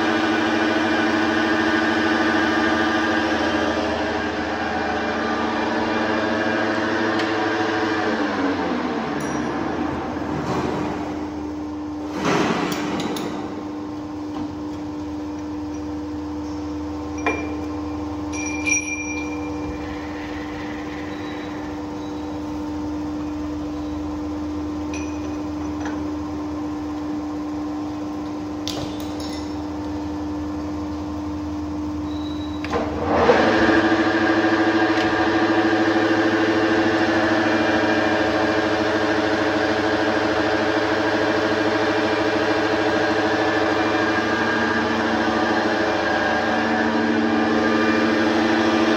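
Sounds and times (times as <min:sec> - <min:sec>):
metal lathe humming: 0:00.0 - 0:12.1, 0:12.8 - 0:28.5, 0:32.6 - 0:48.9.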